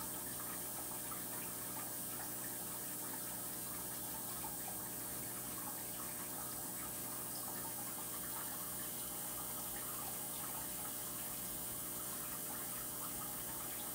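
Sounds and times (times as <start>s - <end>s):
water trickling: 0.0s - 13.9s.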